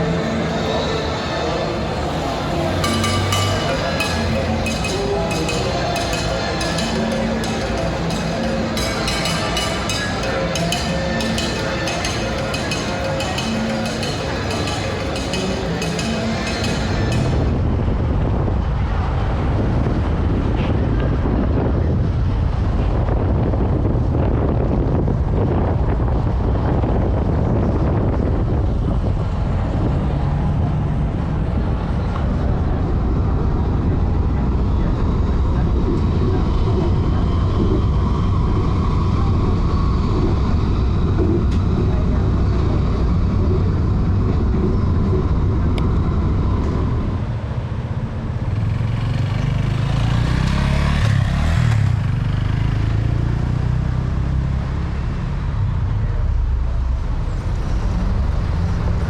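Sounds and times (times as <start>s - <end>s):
passing cars and motorcycles: 0.0s - 59.0s.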